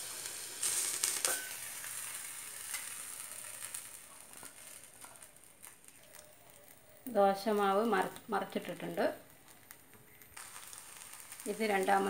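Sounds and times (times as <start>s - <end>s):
batter sizzling in oil: 0.0s - 12.0s.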